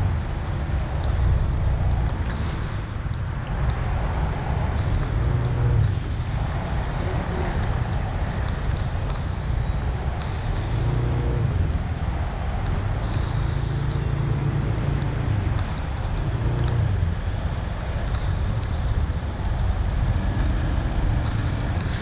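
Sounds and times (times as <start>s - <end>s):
steady rushing noise: 0.0s - 22.0s
vehicle engines passing: 0.0s - 22.0s
wind buffeting microphone: 0.0s - 22.0s.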